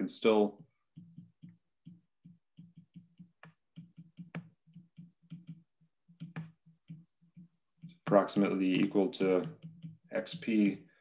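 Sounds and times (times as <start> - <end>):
stylus tapping on glass screen: 0.6 - 11.0.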